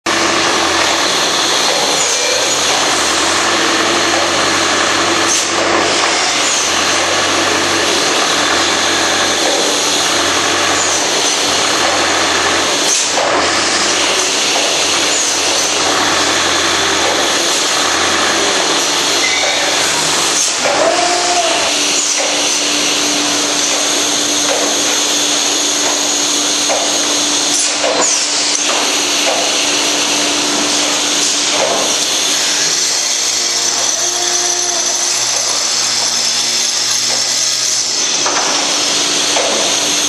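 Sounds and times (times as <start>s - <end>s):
machine running with hiss: 0.1s - 40.0s
suction gripper burst: 0.1s - 40.0s.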